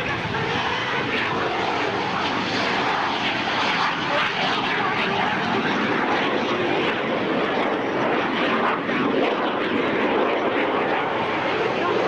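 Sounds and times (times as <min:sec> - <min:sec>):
jet engines taking off: 0:00.0 - 0:12.0.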